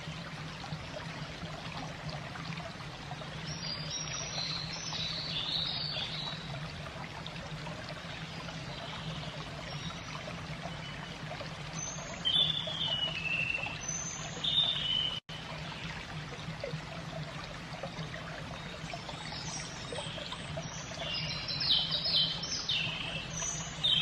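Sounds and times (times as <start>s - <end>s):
trickling running water: 0.0s - 24.0s.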